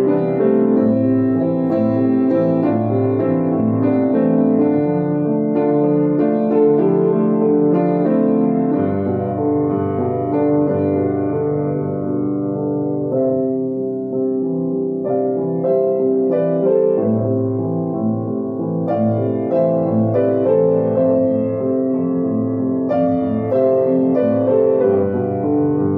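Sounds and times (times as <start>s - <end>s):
soft piano chords: 0.0s - 25.9s.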